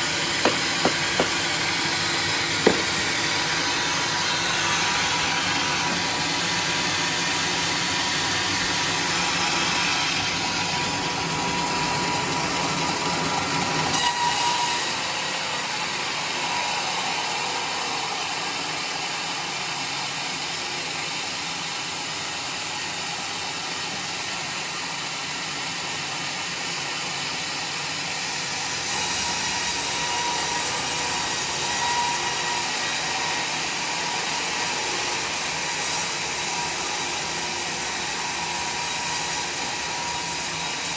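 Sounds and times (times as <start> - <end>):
sawmill sawing a log: 0.0 - 40.9.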